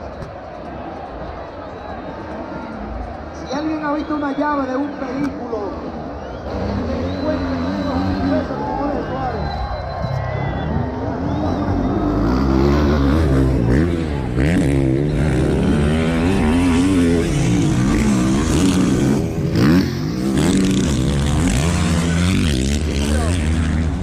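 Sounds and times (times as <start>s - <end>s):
motocross motorcycles revving: 3.2s - 24.0s.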